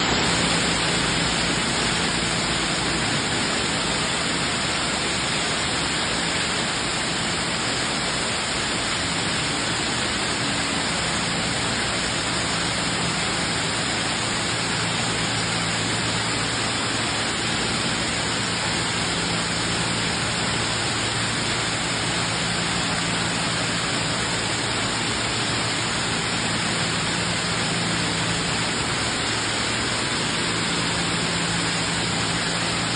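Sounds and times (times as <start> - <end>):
heavy rain falling: 0.0 - 32.9.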